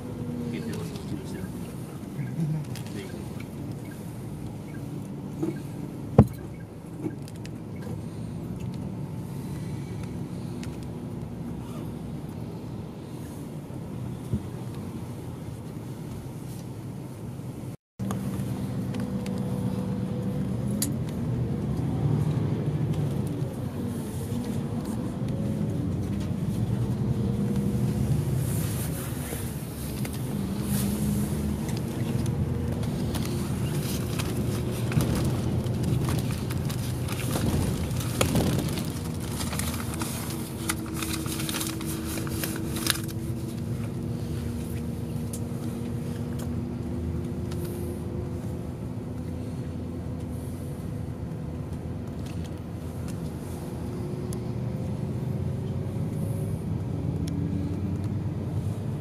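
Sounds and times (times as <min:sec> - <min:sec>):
bus diesel engine: 0:00.0 - 0:59.0
road noise: 0:00.0 - 0:59.0.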